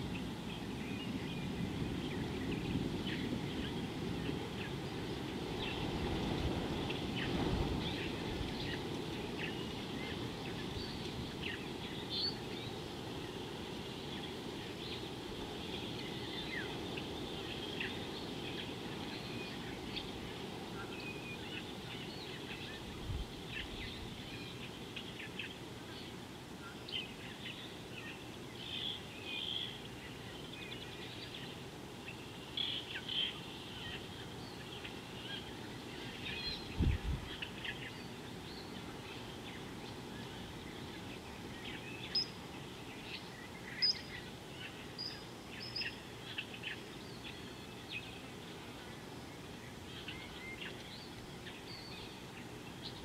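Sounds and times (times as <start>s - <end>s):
low background noise: 0.0s - 53.0s
wild birds chirping: 0.0s - 53.0s.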